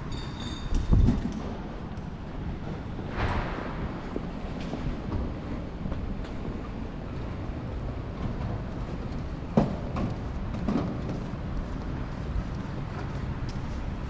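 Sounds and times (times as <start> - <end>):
low city street rumble: 0.0 - 14.0.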